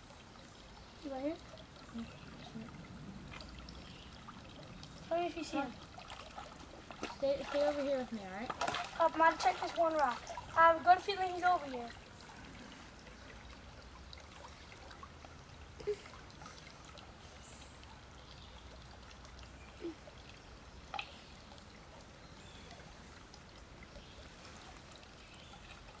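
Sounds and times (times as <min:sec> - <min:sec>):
creek water trickling: 0:00.0 - 0:26.0
faint small splashes: 0:00.0 - 0:26.0.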